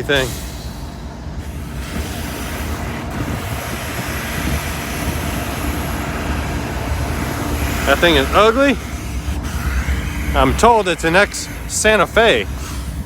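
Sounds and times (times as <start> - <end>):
air hissing: 0.0 - 13.0
diesel locomotives idling: 0.0 - 13.0.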